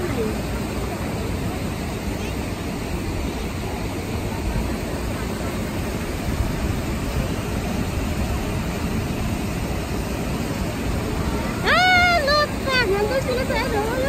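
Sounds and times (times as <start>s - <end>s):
rushing river water: 0.0s - 14.0s.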